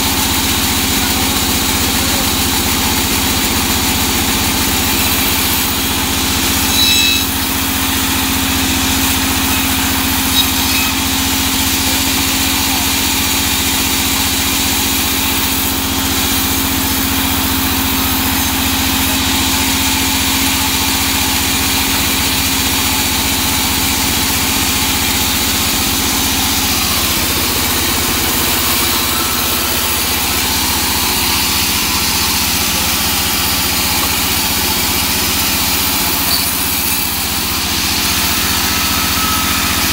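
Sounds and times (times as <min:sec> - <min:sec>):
band saw cutting logs: 0:00.0 - 0:39.9.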